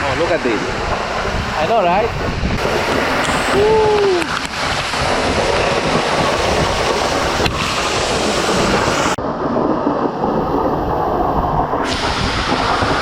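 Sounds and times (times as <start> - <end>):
waterfall rushing close up: 0.0 - 9.2, 9.8 - 13.0.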